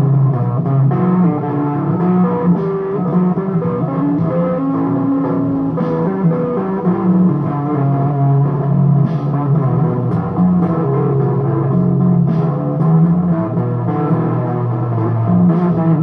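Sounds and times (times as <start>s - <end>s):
electric guitar playing blues: 0.0s - 16.0s.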